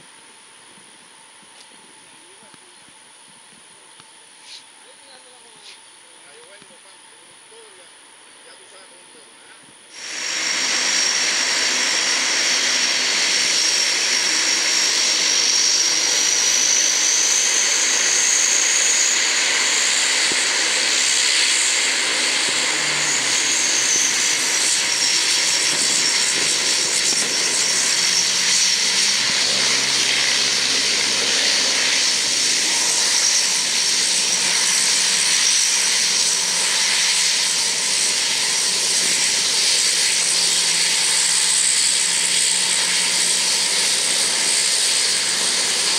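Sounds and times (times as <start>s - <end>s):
turboprop engines running: 0.0s - 45.9s.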